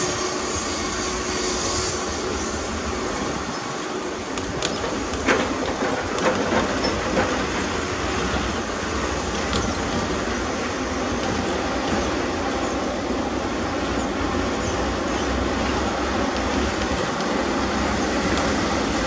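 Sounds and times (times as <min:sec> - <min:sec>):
heavy earthmoving machinery running: 0:00.0 - 0:19.0.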